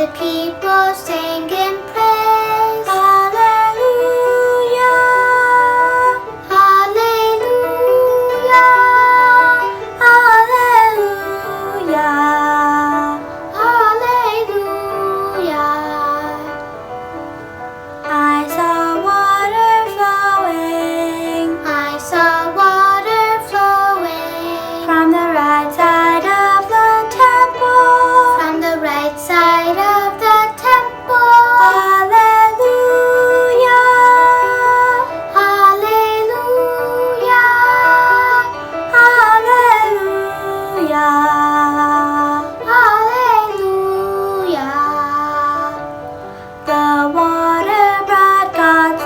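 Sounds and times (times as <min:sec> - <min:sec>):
children's choir singing hymn: 0:00.0 - 0:17.0, 0:17.6 - 0:49.0.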